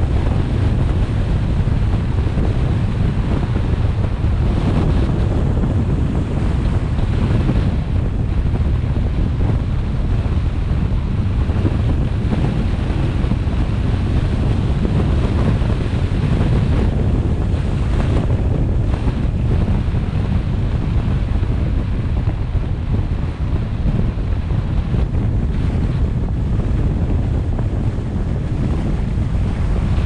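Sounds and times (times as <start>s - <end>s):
road noise: 0.0s - 30.0s
wind buffeting microphone: 0.0s - 30.0s.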